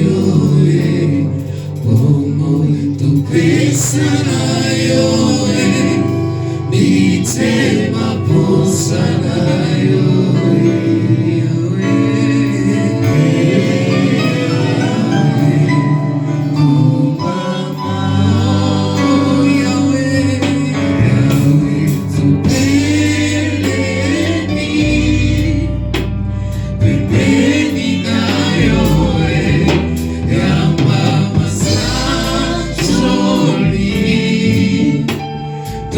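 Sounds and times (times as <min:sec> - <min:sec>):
choir singing gospel: 0:00.0 - 0:35.9
instrumental backing with bass line: 0:00.0 - 0:35.9.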